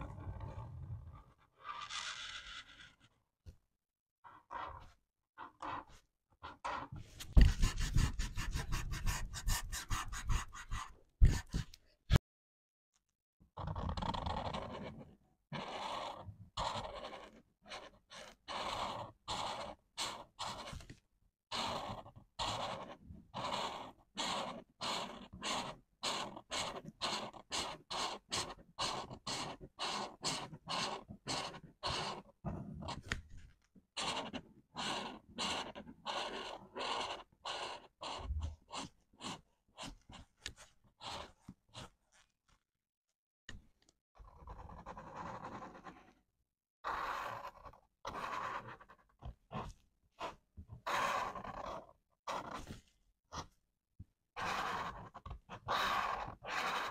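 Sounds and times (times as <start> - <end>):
marker scratching on paper: 4.3 - 11.8, 13.7 - 33.2, 34.0 - 42.3, 44.2 - 46.2, 46.9 - 53.6, 54.4 - 56.9.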